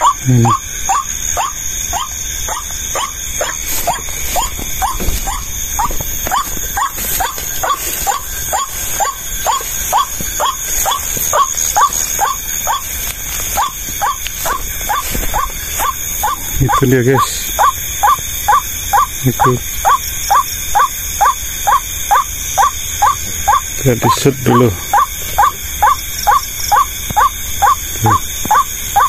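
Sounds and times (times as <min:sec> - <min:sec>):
bird squealing calls: 0:00.0 - 0:29.0
steady high-pitched whine: 0:00.0 - 0:29.0.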